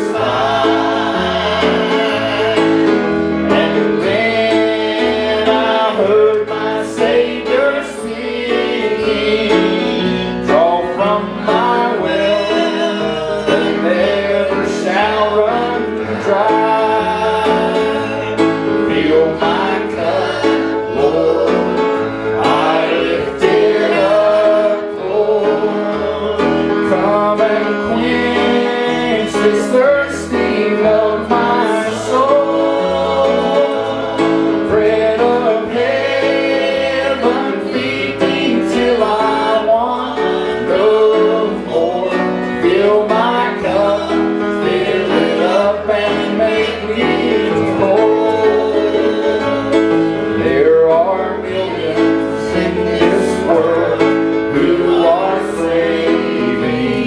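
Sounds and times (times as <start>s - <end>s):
grand piano: 0.0s - 57.0s
man singing a hymn: 0.0s - 57.0s.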